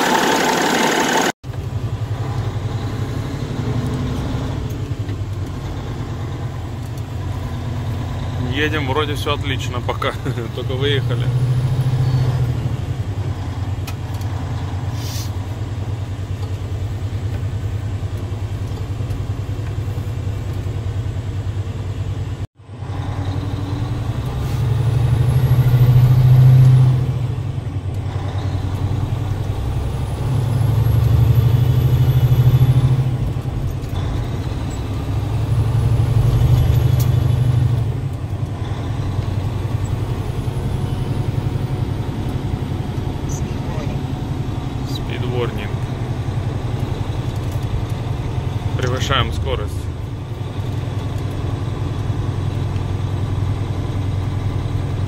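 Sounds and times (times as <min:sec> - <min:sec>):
truck diesel engine accelerating: 0:00.0 - 0:55.0.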